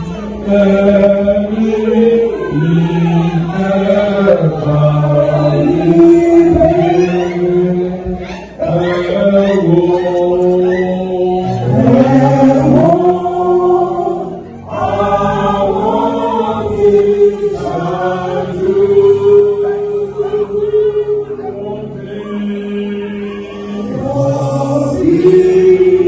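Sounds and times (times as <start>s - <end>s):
choir singing a church song: 0.0s - 26.0s.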